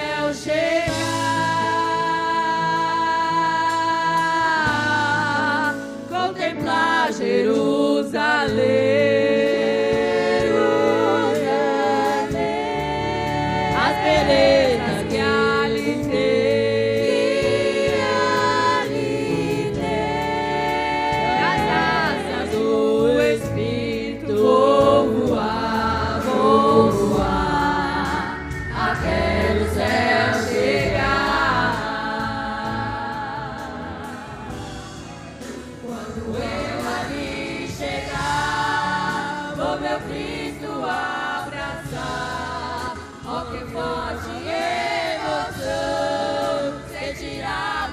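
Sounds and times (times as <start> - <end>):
instrumental accompaniment: 0.0 - 47.9
women's vocal group singing a hymn: 0.0 - 47.9.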